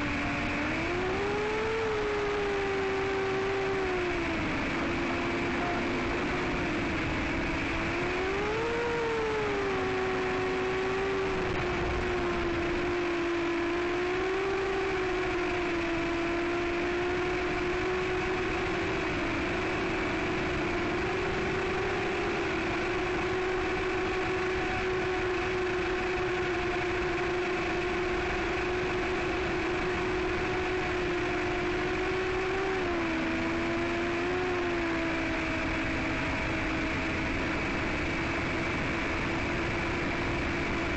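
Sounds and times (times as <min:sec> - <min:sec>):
drone motors whining: 0:00.0 - 0:40.9.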